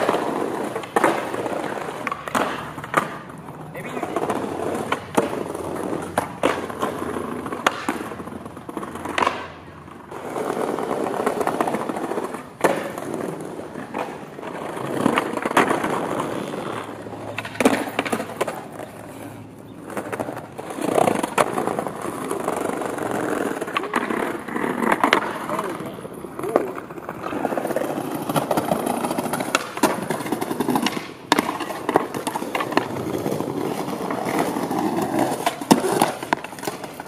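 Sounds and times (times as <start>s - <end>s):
skateboard clacks: 0.0s - 37.0s
skateboard wheels rolling on bricks: 0.0s - 37.0s.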